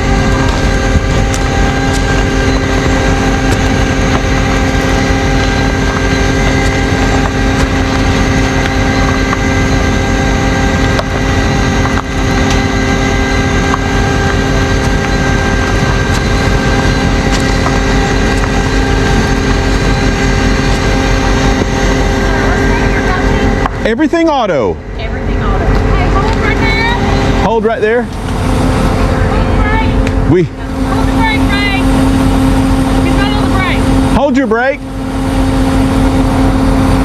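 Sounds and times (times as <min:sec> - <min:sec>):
truck engine humming and whining: 0:00.0 - 0:37.0.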